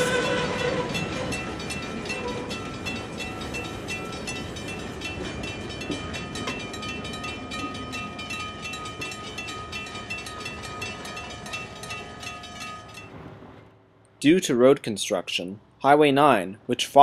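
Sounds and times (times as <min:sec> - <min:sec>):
crossing bell ringing: 0:00.0 - 0:13.7
train wheels rumbling: 0:00.0 - 0:14.9.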